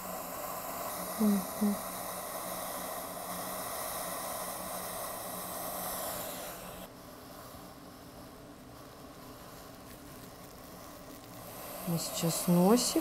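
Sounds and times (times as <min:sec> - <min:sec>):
facial steamer hissing: 0:00.0 - 0:13.0.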